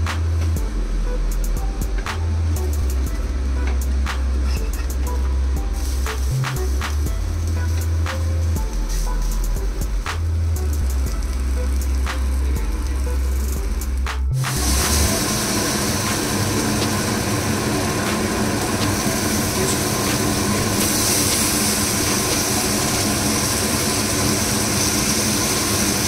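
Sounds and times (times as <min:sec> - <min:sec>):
deep bass line: 0:00.0 - 0:24.6
machine rushing hum: 0:00.0 - 0:26.0.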